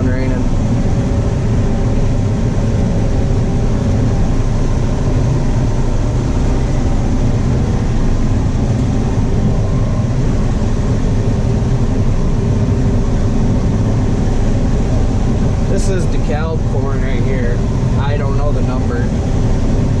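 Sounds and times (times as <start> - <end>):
combine harvester drone: 0.0 - 20.0.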